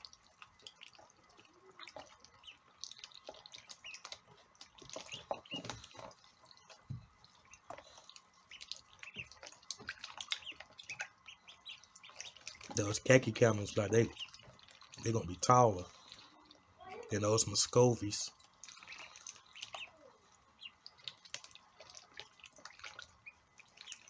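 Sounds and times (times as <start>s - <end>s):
ducklings dabbling in water: 0.0s - 24.0s
ducklings peeping: 0.0s - 24.0s
faint water drips and splashes: 0.0s - 24.0s.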